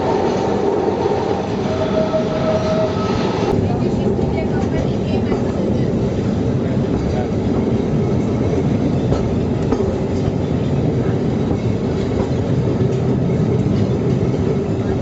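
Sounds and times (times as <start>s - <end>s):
tram rumbling: 0.0s - 15.0s.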